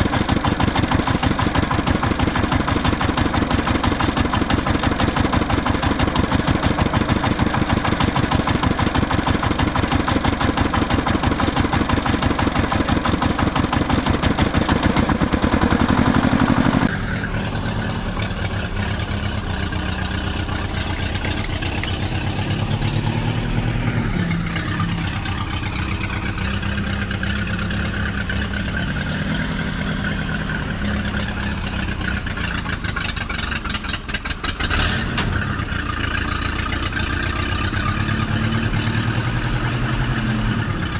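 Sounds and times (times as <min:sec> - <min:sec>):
engine with fast even firing: 0:00.0 - 0:40.9
engine with rising and falling pitch: 0:00.0 - 0:40.9.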